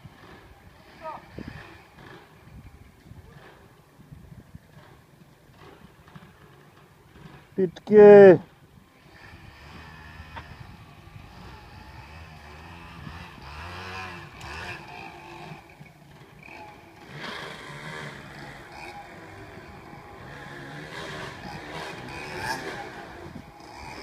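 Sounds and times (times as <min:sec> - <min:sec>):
distant motorcycle engines revving: 0:00.0 - 0:24.0.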